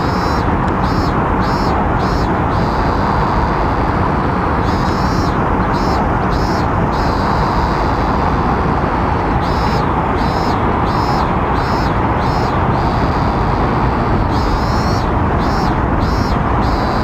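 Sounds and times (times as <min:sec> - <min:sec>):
high pulsing call: 0:00.0 - 0:17.0
loud steady rush of noise: 0:00.0 - 0:17.0.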